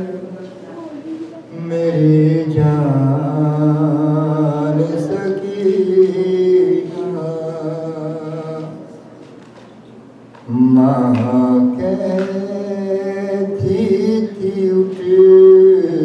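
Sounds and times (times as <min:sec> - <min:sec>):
man chanting: 0:00.0 - 0:09.0, 0:10.5 - 0:16.0.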